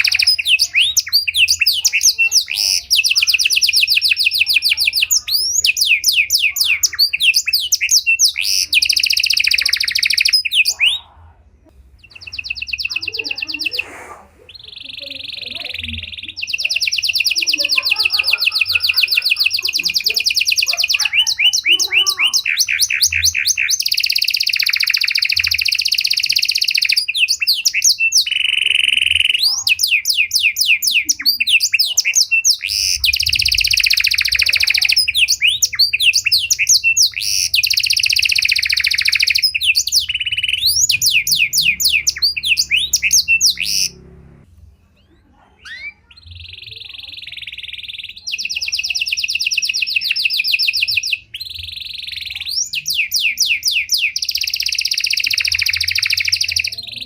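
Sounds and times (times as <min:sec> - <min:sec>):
canary singing trills: 0:00.0 - 0:57.0
faint chirps: 0:00.0 - 0:57.0.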